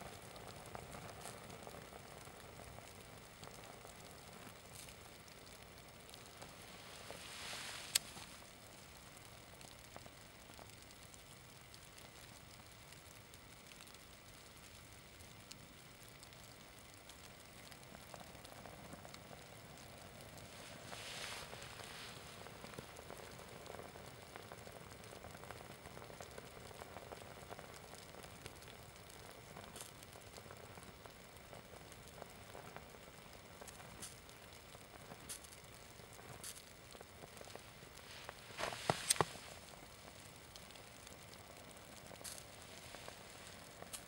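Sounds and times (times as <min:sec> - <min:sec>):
burning fabric sizzling and crackling: 0:00.0 - 0:44.0.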